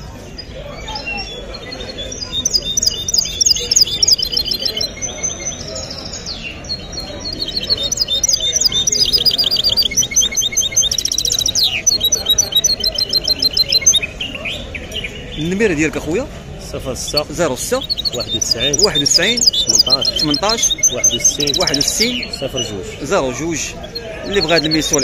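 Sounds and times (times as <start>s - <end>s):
bird singing with trills: 0.0s - 16.2s, 16.8s - 25.0s.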